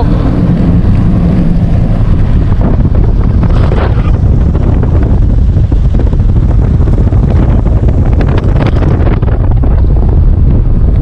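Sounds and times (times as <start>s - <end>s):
car engine: 0.0s - 11.0s
wind buffeting microphone: 0.0s - 11.0s.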